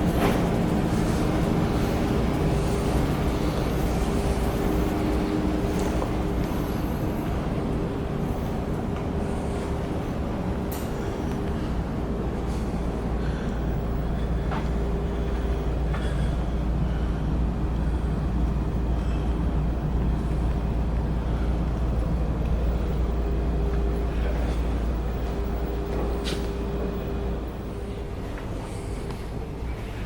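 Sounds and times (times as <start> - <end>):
large engine rumbling and droning: 0.0 - 30.0.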